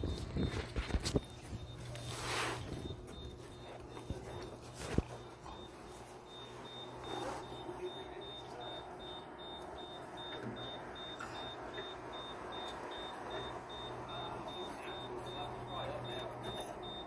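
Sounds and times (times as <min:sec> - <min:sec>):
low steady hum: 0:00.0 - 0:17.0
vehicle warning beeper: 0:00.0 - 0:17.0.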